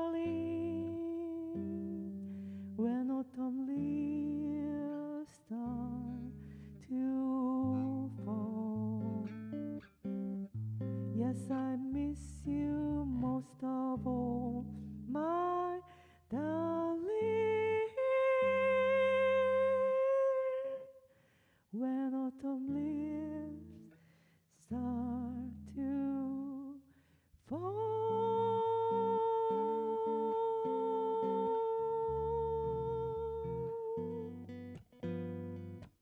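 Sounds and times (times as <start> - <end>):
woman singing wordlessly: 0.0 - 9.9, 11.0 - 21.1, 21.7 - 35.8.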